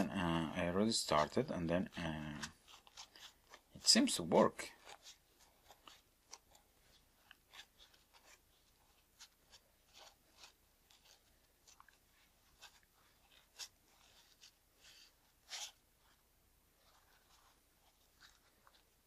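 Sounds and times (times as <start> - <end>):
wipe rustling and crinkling: 0.0 - 19.0.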